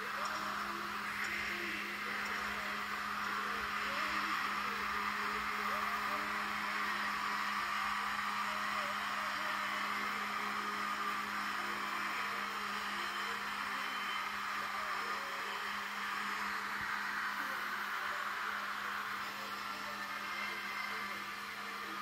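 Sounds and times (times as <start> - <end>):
steady whirring: 0.0 - 22.0.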